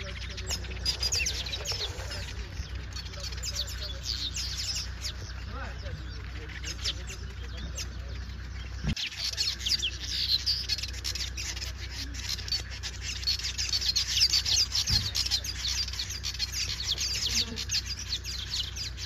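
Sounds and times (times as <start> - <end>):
weaver birds chattering: 0.0 - 19.0.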